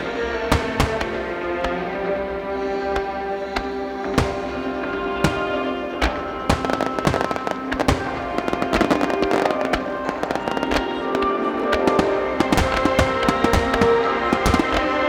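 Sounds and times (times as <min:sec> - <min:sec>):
firework shells bursting: 0:00.0 - 0:15.0
slow orchestral music: 0:00.0 - 0:15.0.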